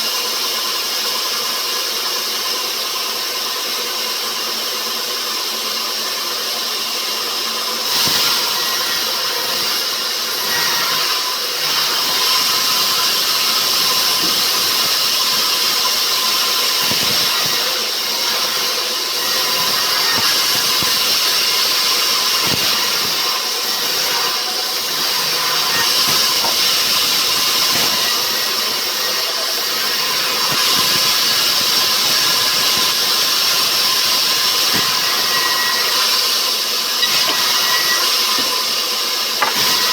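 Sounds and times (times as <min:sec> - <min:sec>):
saw hissing and whining: 0:00.0 - 0:39.9.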